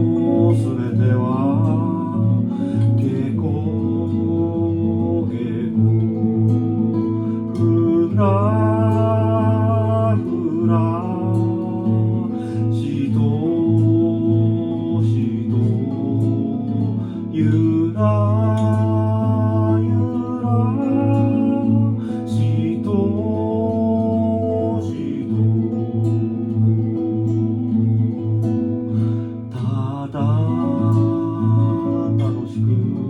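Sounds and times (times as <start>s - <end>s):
plucked acoustic guitar: 0.0s - 33.0s.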